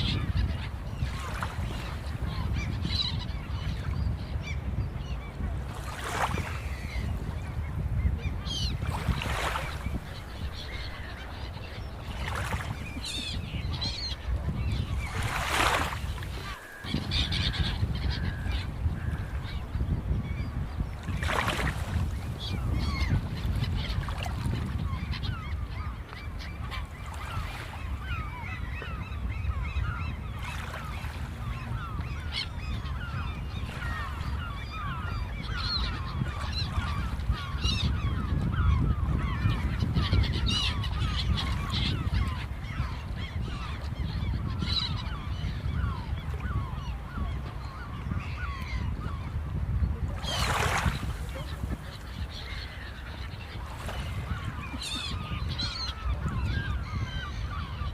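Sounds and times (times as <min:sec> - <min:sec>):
seagulls calling: 0:00.0 - 0:57.9.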